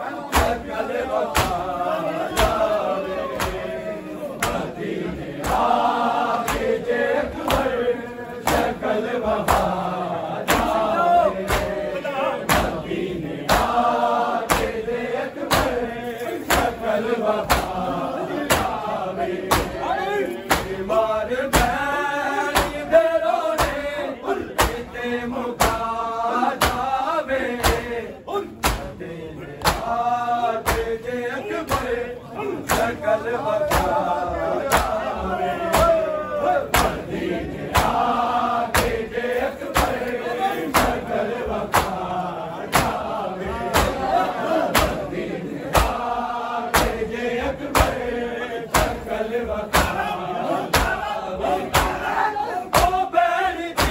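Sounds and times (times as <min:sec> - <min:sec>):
men chanting: 0:00.0 - 0:53.9
men slapping chests in unison: 0:00.1 - 0:53.9.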